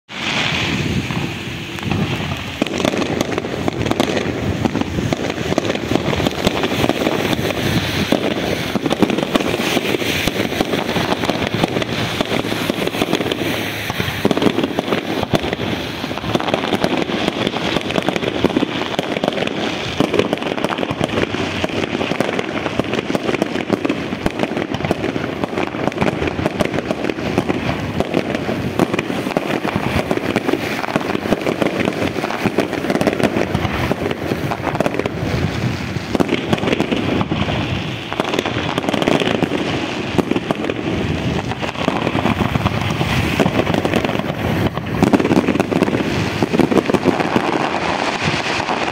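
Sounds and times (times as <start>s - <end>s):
fireworks bursting: 0.1s - 48.9s.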